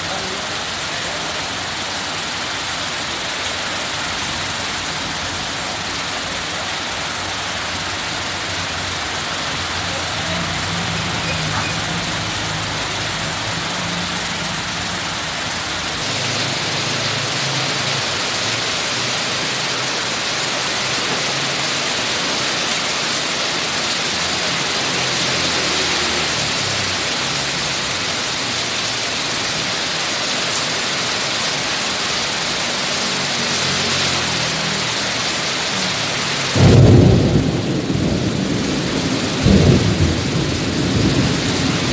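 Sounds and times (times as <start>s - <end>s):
heavy rain pouring: 0.0s - 41.9s
road traffic engine hum: 0.0s - 41.9s.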